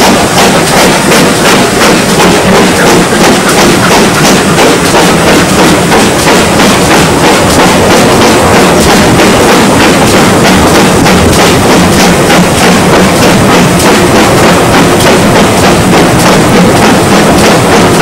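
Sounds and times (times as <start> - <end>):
steam locomotive beats: 0.0 - 18.0.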